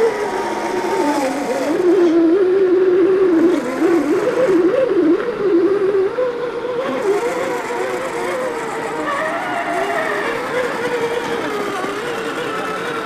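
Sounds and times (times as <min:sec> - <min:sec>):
electric motor and gearbox whine: 0:00.0 - 0:13.0.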